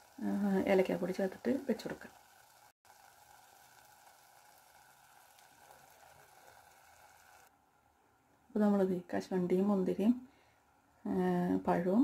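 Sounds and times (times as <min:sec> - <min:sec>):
faint sizzling in a pan: 0:00.0 - 0:12.0.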